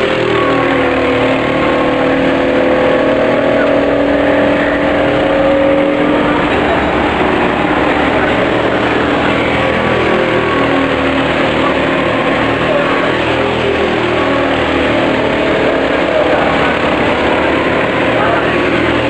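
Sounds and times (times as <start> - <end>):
go-kart engines running: 0.0 - 19.0.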